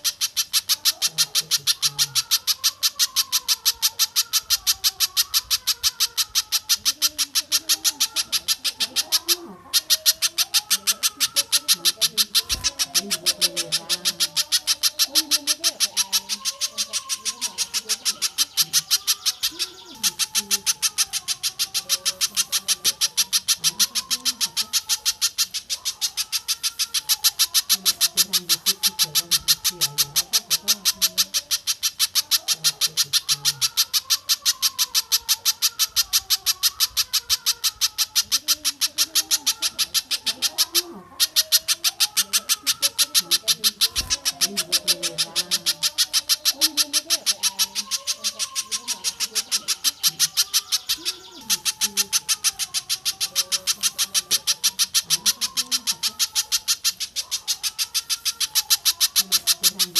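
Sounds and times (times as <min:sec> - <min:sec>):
faint bird warbling: 0:00.0 - 0:59.9.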